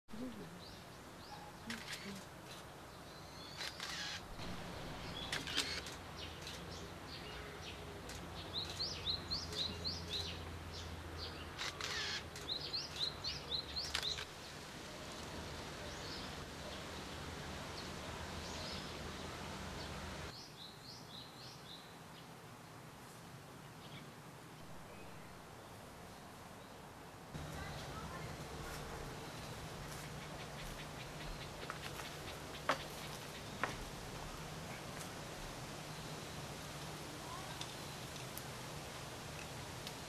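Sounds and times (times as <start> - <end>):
small birds chirping: 0.1 - 22.3, 27.4 - 38.5.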